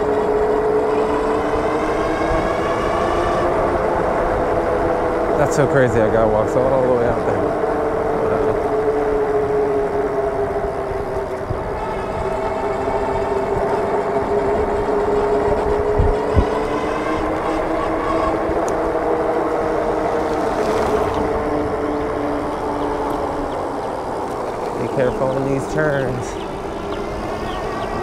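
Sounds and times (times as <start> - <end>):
electric bike motor humming: 0.0 - 28.0
low rumble of tires: 0.0 - 28.0.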